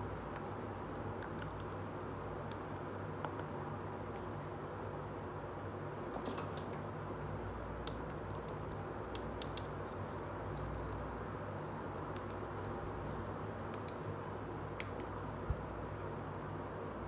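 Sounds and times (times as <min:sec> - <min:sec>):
steady hiss with low hum: 0:00.0 - 0:17.0.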